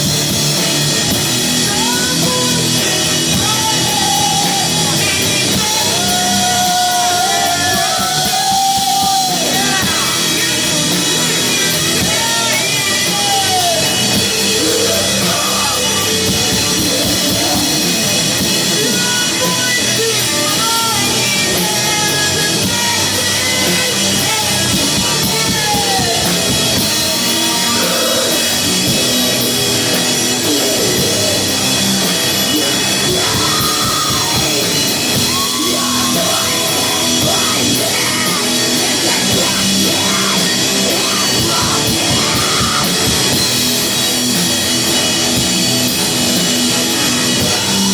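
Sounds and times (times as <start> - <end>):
live heavy metal band: 0.0 - 47.9.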